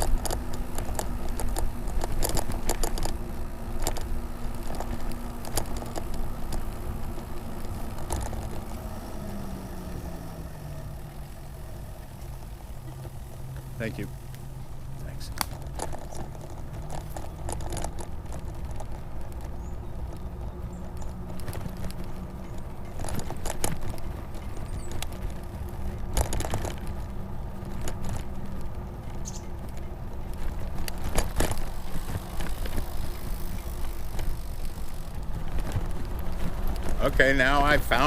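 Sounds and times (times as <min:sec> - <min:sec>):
bike clicks and rattles: 0:00.0 - 0:38.0
rumble of tyres and wind: 0:00.0 - 0:38.0.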